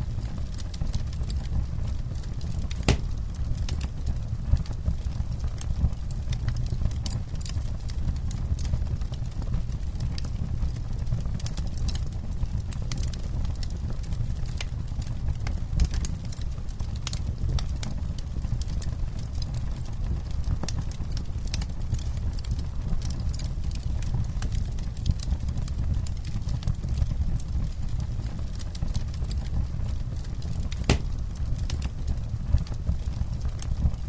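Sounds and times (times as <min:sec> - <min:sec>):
campfire crackling and popping: 0:00.0 - 0:34.0
low fire rumble: 0:00.0 - 0:34.0.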